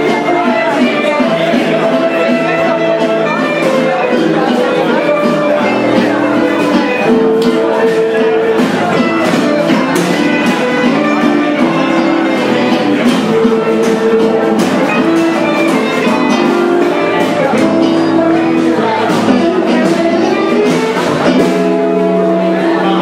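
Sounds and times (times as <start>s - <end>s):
gypsy jazz guitar music: 0.0s - 23.0s.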